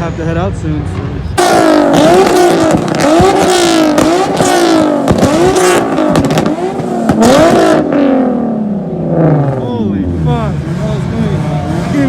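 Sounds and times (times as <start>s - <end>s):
car engine revving: 0.0s - 12.0s
exhaust cracks: 1.4s - 11.2s.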